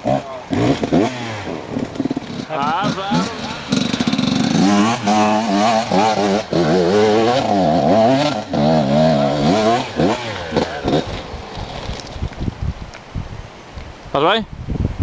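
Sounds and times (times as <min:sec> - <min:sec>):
dirt bike engine revving: 0:00.0 - 0:12.1.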